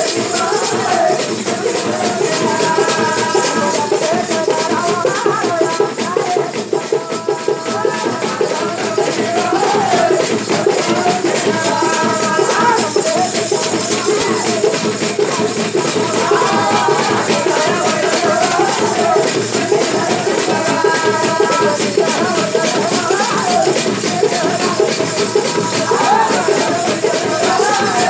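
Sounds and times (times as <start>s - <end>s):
barrel drums playing: 0.0s - 28.0s.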